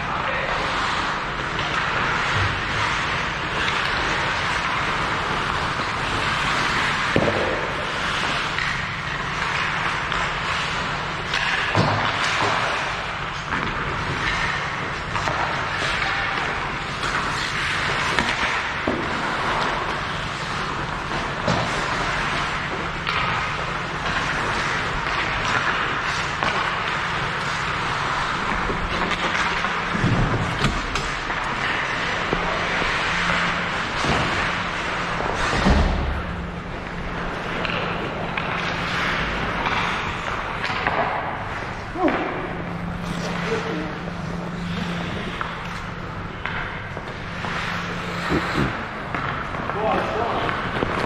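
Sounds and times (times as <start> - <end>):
knocks of sticks puck and boards: 0.3 - 51.0
skate blades scraping ice: 0.5 - 42.2, 43.0 - 51.0.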